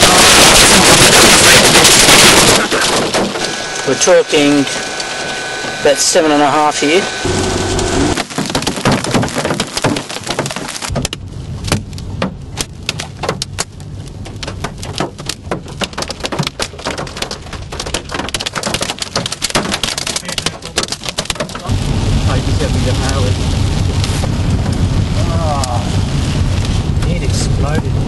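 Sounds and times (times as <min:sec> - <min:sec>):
hailstones knocking on car roof: 0:00.0 - 0:03.8, 0:08.1 - 0:28.0
rain and wind rushing: 0:00.0 - 0:28.0.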